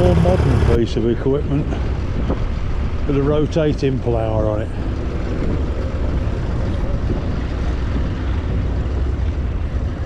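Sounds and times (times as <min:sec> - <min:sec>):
tractor engine running: 0:00.0 - 0:10.0
wind buffeting microphone: 0:00.0 - 0:10.0.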